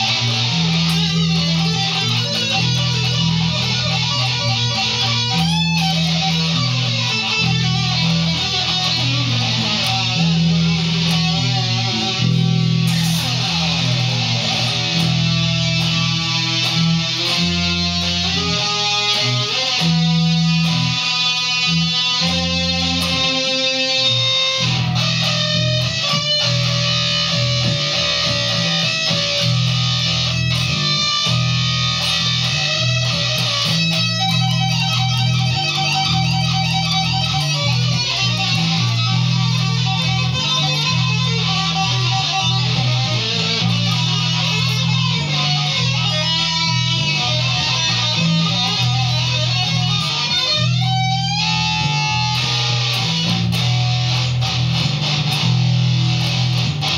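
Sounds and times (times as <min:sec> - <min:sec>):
electric guitar lead: 0:00.0 - 0:56.9
low bass accompaniment: 0:00.0 - 0:56.9.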